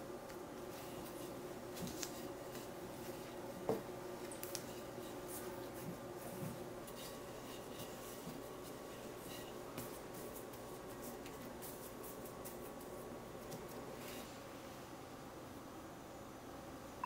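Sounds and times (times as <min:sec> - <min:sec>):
faint steady hum: 0:00.0 - 0:17.0
hands patting dough: 0:00.2 - 0:14.0.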